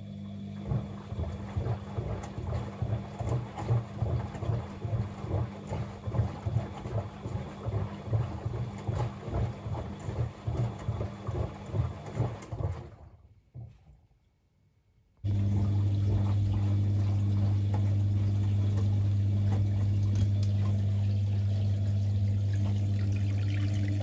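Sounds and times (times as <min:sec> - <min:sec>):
washing machine motor hum: 0:00.0 - 0:13.8, 0:15.2 - 0:24.0
water and load sloshing: 0:00.3 - 0:14.0, 0:15.3 - 0:24.0.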